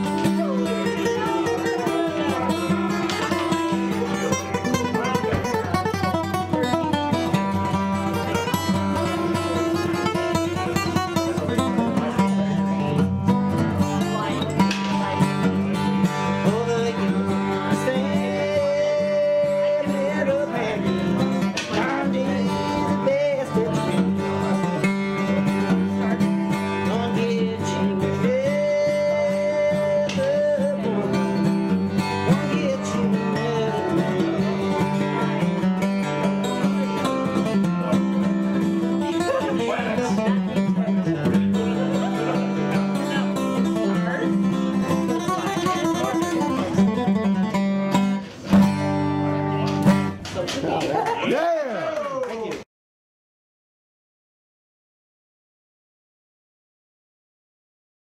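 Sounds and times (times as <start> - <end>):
man singing: 0.0 - 48.1
acoustic guitar: 0.0 - 51.4.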